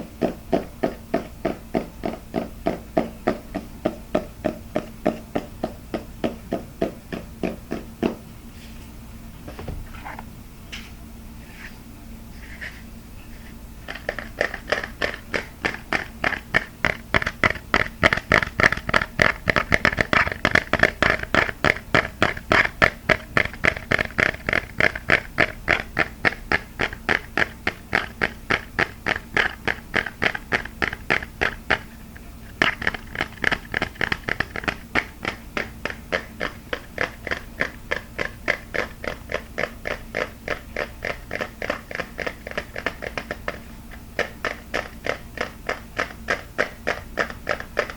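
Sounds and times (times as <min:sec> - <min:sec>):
fingers tapping on hard object: 0:00.0 - 0:08.2, 0:13.8 - 0:31.9, 0:32.5 - 0:47.9.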